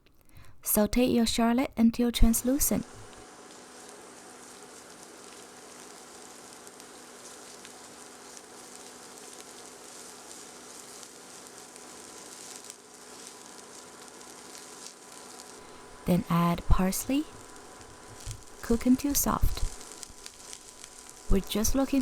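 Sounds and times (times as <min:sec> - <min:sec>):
shallot sizzling in a pan: 0:02.2 - 0:22.0.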